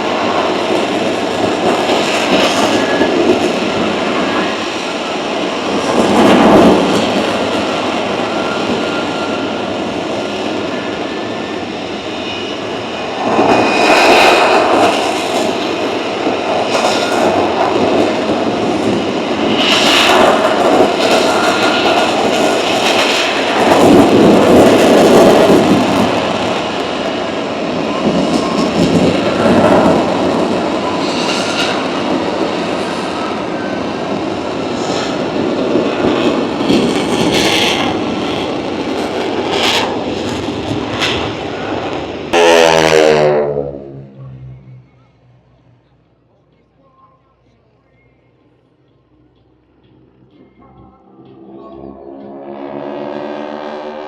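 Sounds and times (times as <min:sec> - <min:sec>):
aircraft engines roaring overhead: 0:00.0 - 0:54.0
faint engine whine: 0:00.0 - 0:54.0.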